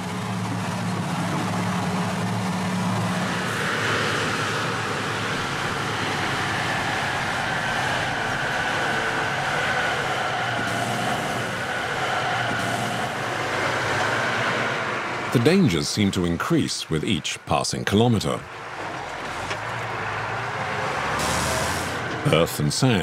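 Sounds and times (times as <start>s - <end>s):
truck engine running: 0.0s - 23.0s
tyre and road noise: 0.0s - 23.0s.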